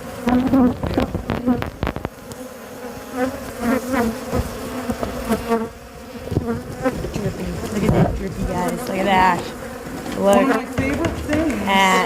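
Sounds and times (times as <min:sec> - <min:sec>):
bees buzzing in a swarm: 0:00.0 - 0:12.0.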